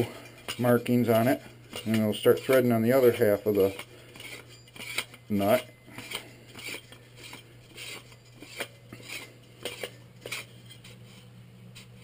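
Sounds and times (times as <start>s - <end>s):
faint steady hum: 0.0s - 12.0s
metal clicks and scrapes: 0.0s - 12.0s.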